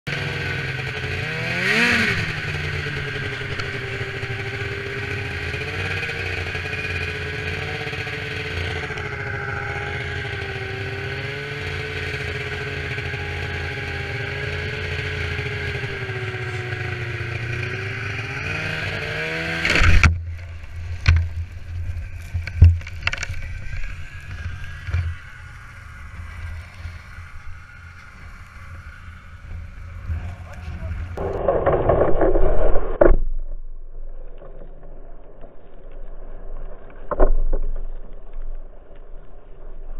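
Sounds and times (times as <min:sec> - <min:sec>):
snowmobile engine running: 0:00.1 - 0:33.2.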